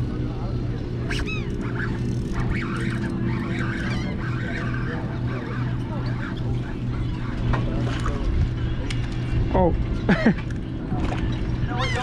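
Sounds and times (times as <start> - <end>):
boat engine humming: 0.0 - 12.0
bird calls: 1.0 - 10.4, 11.3 - 12.0.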